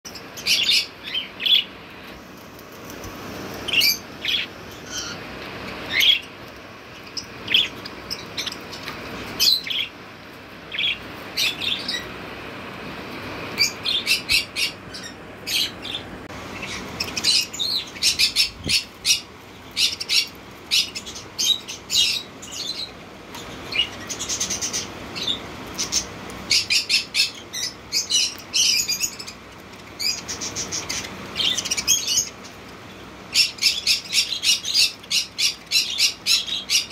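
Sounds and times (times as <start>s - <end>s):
budgerigars chirping: 0.2s - 1.8s, 3.7s - 6.3s, 7.0s - 10.0s, 10.7s - 12.1s, 13.6s - 29.4s, 30.0s - 32.5s, 33.3s - 36.9s.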